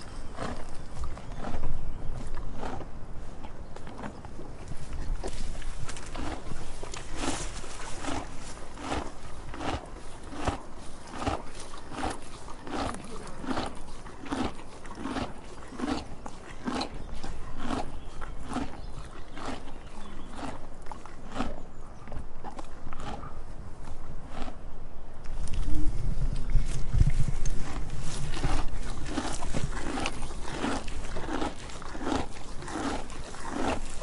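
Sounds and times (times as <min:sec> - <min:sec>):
donkey chewing crunchily: 0:00.0 - 0:34.0.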